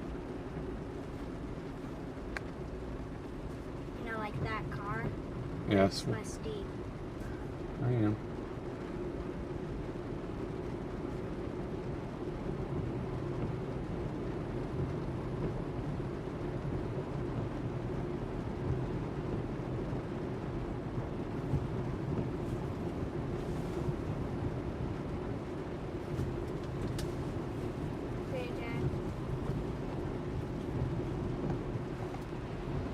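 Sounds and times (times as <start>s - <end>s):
car engine hum: 0.0s - 32.9s.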